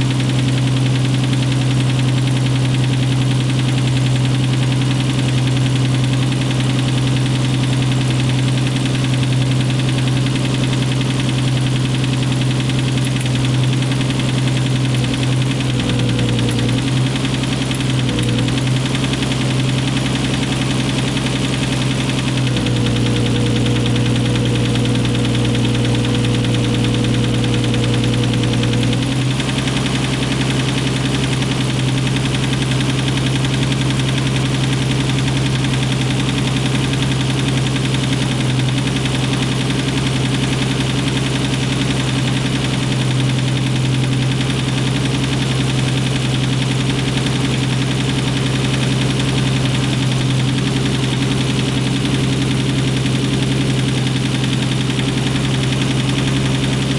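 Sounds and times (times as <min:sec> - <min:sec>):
engine running with loud clacking: 0:00.0 - 0:56.9.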